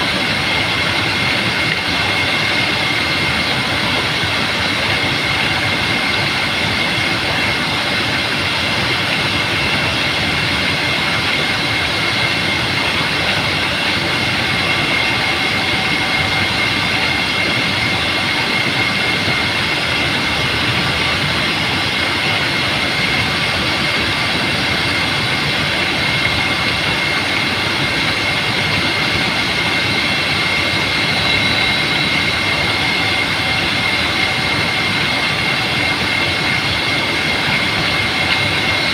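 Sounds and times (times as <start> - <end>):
thin high whine: 0.0 - 38.9.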